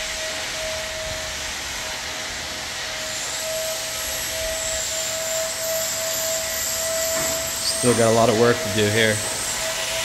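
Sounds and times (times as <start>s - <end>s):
faint high whine: 0.0s - 10.0s
machine whooshing with whine: 0.0s - 10.0s.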